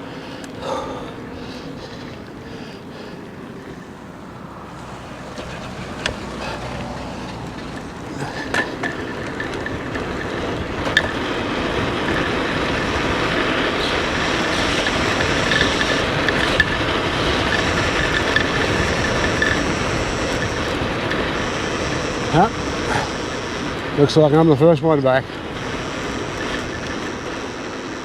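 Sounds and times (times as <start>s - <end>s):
thin high motor whine: 0.0s - 28.0s
tyre and wind noise: 0.0s - 28.0s.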